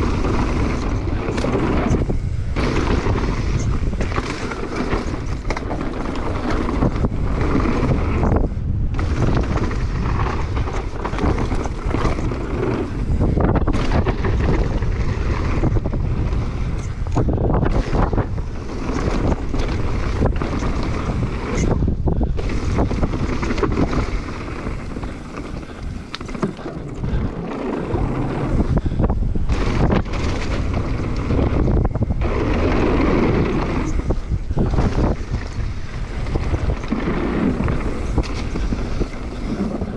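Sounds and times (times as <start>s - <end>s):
bike knocking and clattering: 0.0s - 39.9s
bike tyre rumble: 0.0s - 39.9s
wind rushing on microphone: 0.0s - 39.9s.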